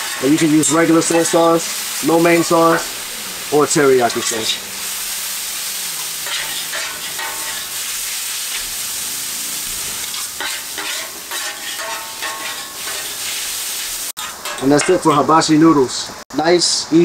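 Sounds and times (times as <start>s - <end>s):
metal utensils scraping a griddle: 0.0s - 15.3s
noodles sizzling on a griddle: 0.0s - 16.0s.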